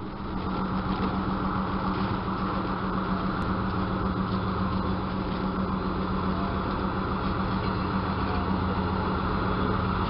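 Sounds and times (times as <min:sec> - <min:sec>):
diesel engine droning: 0:00.0 - 0:10.0
train running on rails: 0:00.0 - 0:10.0.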